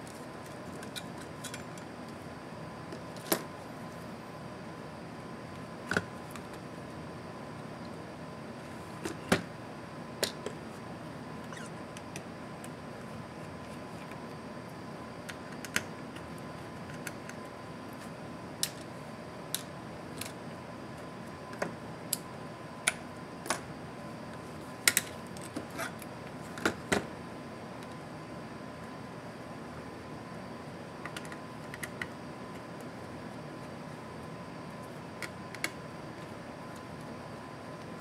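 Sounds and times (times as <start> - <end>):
faint whine: 0.0 - 38.0.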